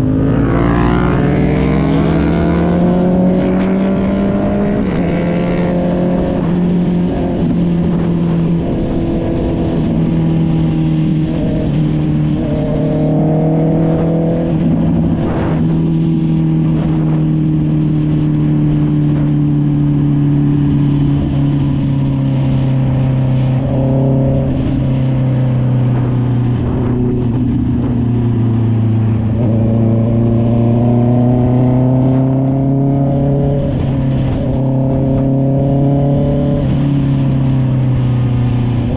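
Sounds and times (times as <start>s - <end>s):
motorcycle engine under way: 0.0s - 38.9s.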